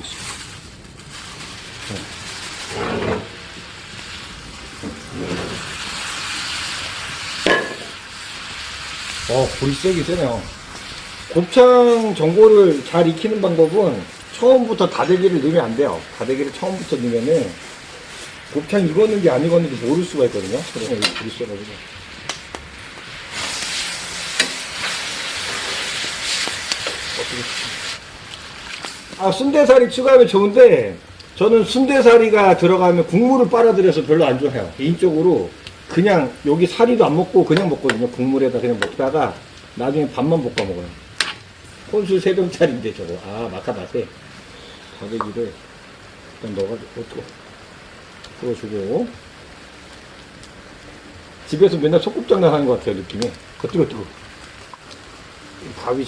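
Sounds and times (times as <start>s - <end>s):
pot sizzling and hissing: 0.0s - 56.0s.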